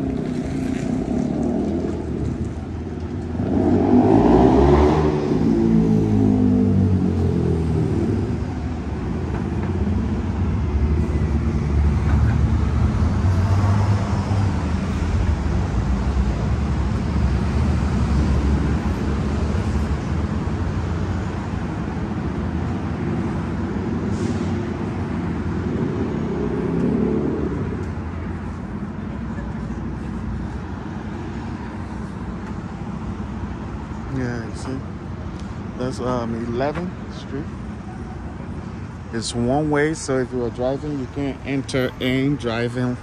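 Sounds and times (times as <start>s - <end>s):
traffic driving past: 0.0s - 43.0s.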